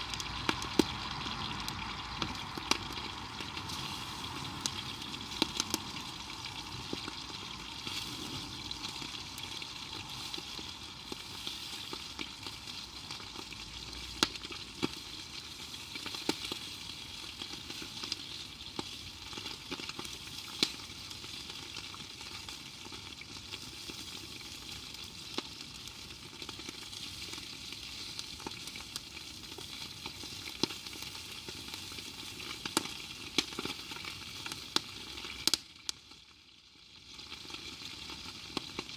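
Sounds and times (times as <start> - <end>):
food sizzling in a pan: 0.0 - 38.9
sharp pops of frying: 0.0 - 38.9.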